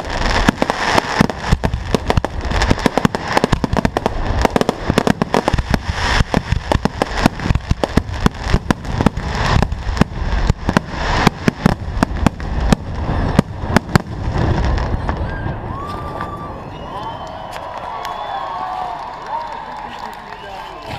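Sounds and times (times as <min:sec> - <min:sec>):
fireworks bangs: 0:00.0 - 0:20.9
fireworks crackling: 0:00.0 - 0:20.9.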